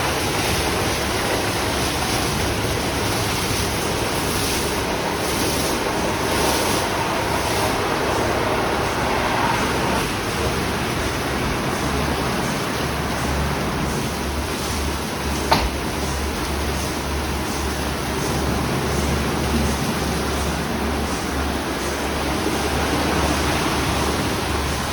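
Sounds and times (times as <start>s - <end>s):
car wash water spray: 0.0s - 24.9s.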